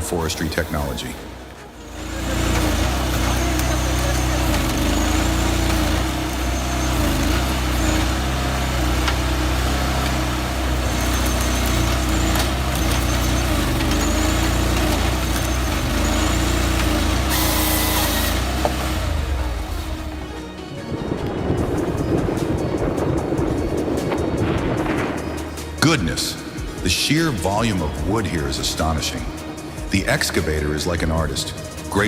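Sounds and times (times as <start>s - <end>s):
harvester engine running: 0.0s - 32.0s.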